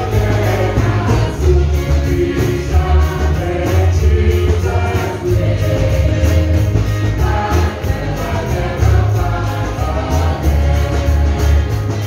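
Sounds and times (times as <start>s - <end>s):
backing voices singing: 0.0s - 12.0s
heavy pulsing bass: 0.0s - 12.0s
instrumental accompaniment: 0.0s - 12.0s
lead voice singing gospel: 0.0s - 12.0s.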